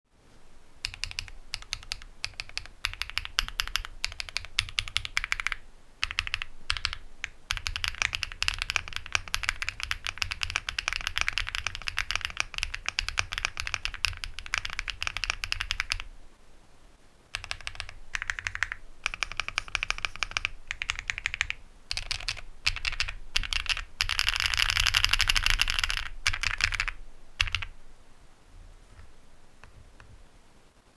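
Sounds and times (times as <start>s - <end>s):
fast typing on mechanical keyboard: 0.8s - 16.1s, 17.3s - 27.7s.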